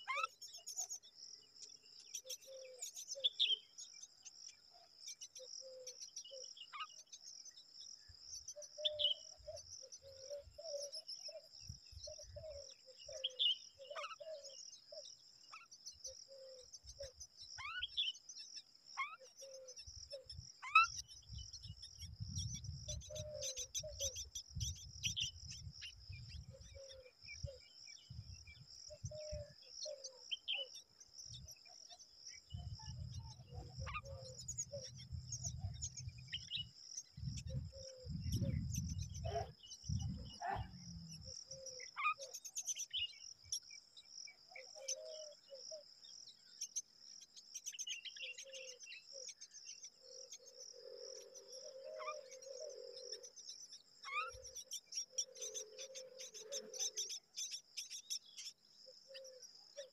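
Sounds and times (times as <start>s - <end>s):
bird chirps: 0.0s - 59.9s
insect trill: 0.0s - 59.9s.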